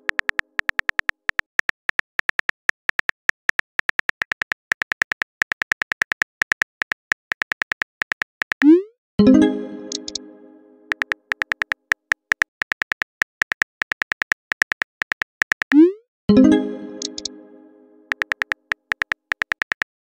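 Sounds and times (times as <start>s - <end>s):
phone keyboard typing clicks: 0.0s - 8.7s, 9.9s - 10.2s, 10.9s - 15.9s, 17.0s - 17.4s, 18.1s - 20.0s.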